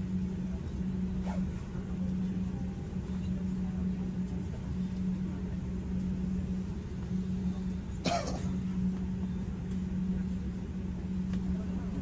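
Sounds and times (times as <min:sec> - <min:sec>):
rumble: 0:00.0 - 0:12.0
tram low hum: 0:00.0 - 0:12.0.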